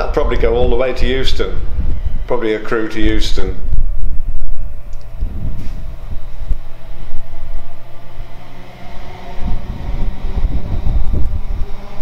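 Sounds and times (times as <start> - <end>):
electric train hum: 0.0 - 12.0
train rumble: 0.0 - 12.0.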